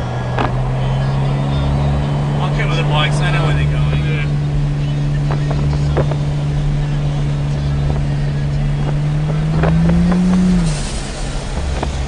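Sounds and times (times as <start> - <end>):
car engine drone inside cabin: 0.0 - 12.0.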